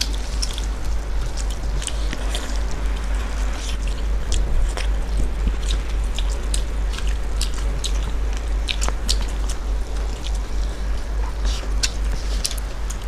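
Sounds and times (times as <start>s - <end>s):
chewing and wet mouth smacks: 0.0s - 13.0s
steady low hum: 0.0s - 13.0s.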